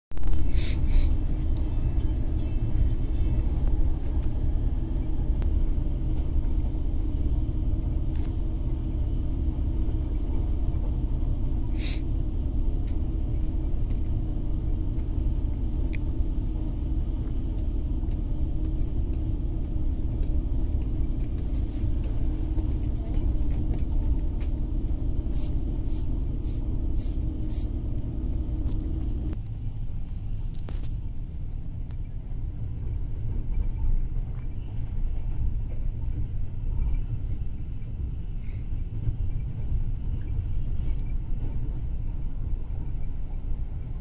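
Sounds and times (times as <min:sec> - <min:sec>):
train rumble inside carriage: 0:00.1 - 0:44.0.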